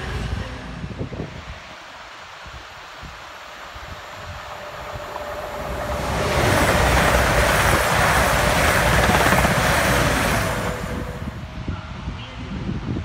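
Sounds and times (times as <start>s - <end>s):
passenger train passing at speed: 0.0s - 13.0s.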